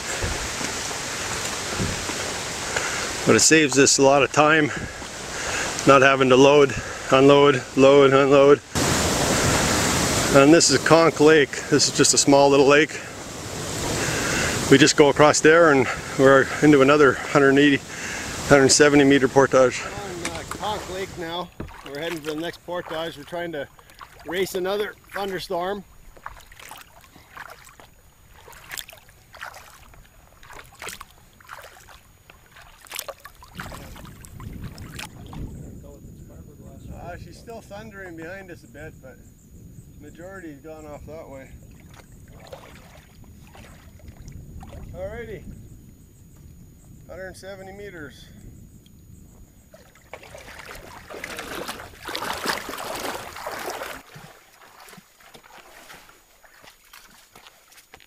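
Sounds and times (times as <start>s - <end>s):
paddle splashing in water: 0.0s - 35.5s, 41.5s - 45.0s, 49.7s - 58.0s.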